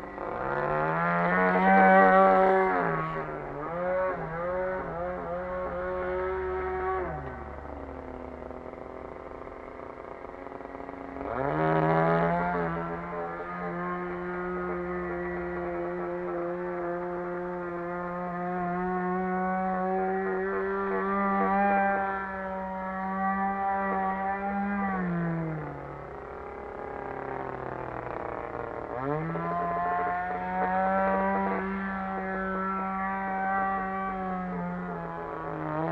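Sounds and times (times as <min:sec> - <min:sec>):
model aircraft engine revving: 0:00.0 - 0:35.9.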